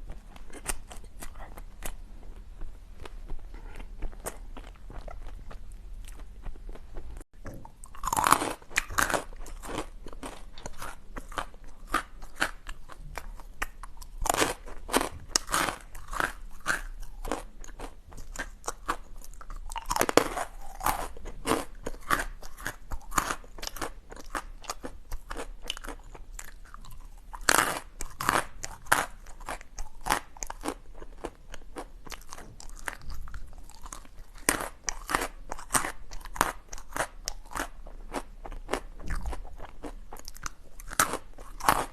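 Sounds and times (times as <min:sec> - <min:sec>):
ice crunching being chewed: 0:00.0 - 0:41.9.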